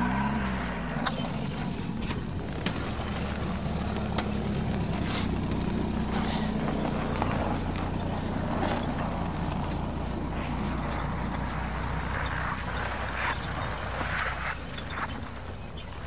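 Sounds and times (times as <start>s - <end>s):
van engine running low: 0.0s - 16.0s.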